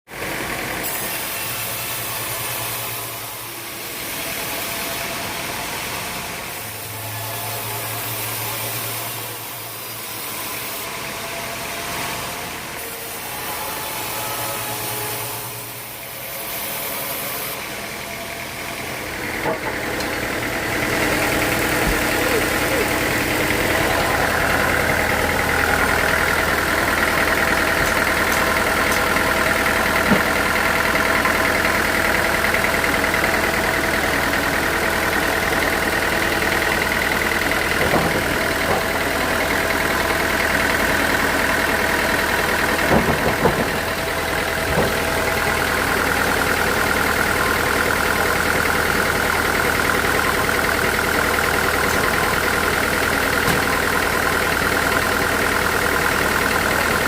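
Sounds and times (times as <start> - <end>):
sawmill machinery humming: 0.1 - 57.0.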